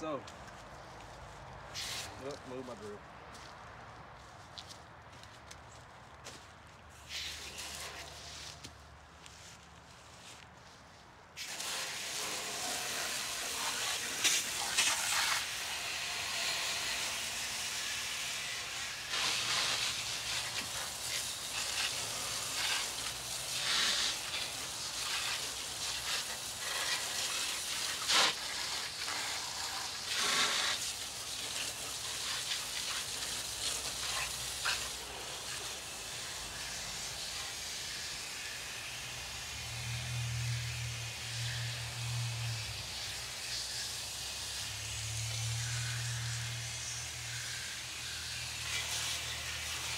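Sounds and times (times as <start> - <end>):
hose water spraying on metal coil: 1.8 - 2.4, 6.9 - 8.7, 11.4 - 49.9.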